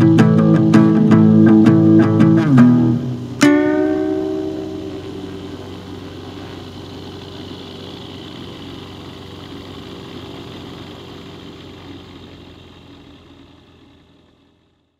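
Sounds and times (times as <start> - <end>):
propeller aircraft engine idling: 0.0 - 14.9.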